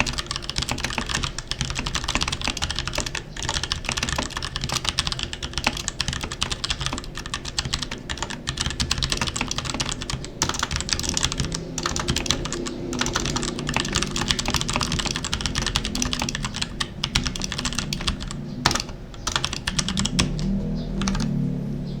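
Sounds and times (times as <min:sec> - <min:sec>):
mechanical keyboard typing: 0:00.0 - 0:21.4.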